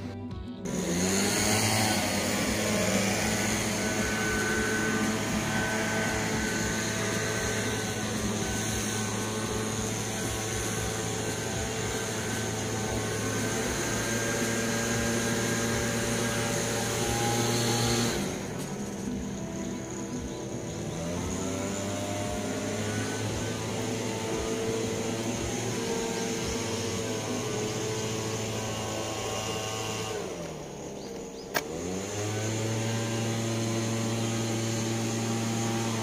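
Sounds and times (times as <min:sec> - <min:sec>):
motor droning: 0:00.0 - 0:36.0.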